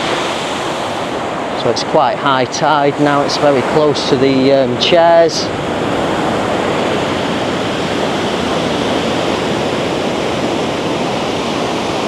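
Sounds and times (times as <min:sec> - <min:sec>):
ocean surf rushing: 0:00.0 - 0:12.0.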